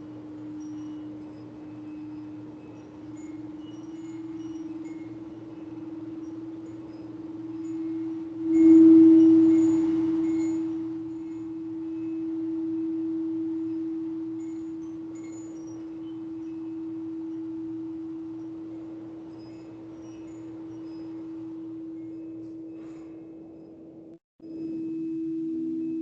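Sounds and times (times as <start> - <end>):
faint high tinkling: 0.0 - 26.0
singing bowl ringing: 0.0 - 26.0.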